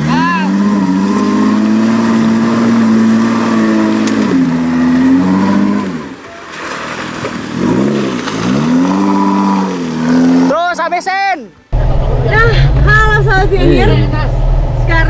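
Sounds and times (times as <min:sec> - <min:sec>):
off-road vehicle engine revving: 0:00.0 - 0:10.8, 0:11.7 - 0:15.0.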